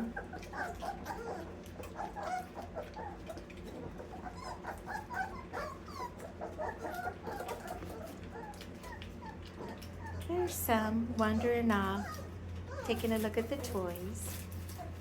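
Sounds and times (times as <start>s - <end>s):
puppies whimpering and squealing: 0.0s - 15.0s.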